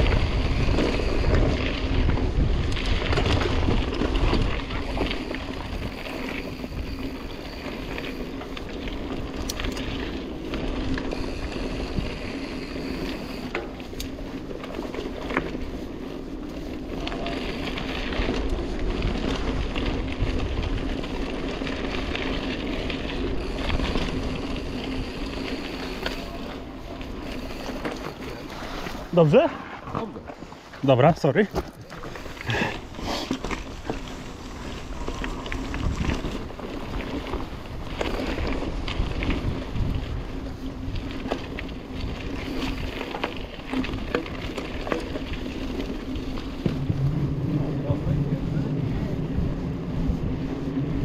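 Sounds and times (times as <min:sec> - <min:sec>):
wind rumble on microphone: 0:00.0 - 0:29.4, 0:32.0 - 0:51.0
bike clicks and rattles: 0:00.0 - 0:51.0
bike tyre noise: 0:00.0 - 0:51.0.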